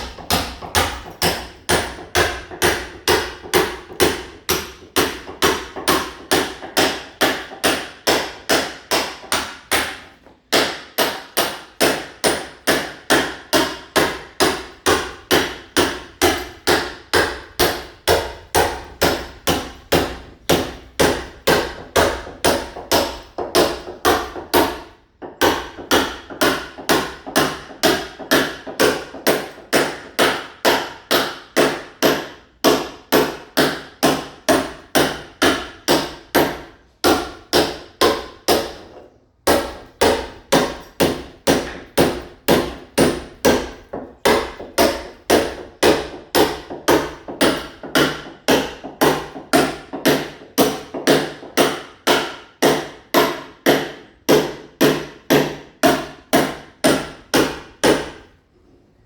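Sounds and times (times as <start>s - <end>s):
hammer striking masonry wall: 0.0s - 58.3s.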